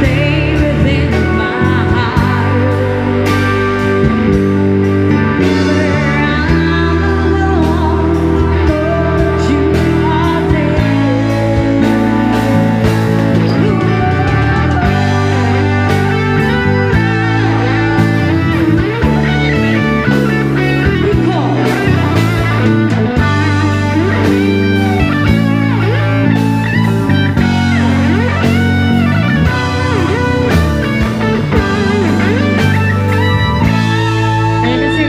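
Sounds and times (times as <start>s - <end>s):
bass and drums: 0.0s - 35.0s
electric guitar lead: 0.0s - 35.0s.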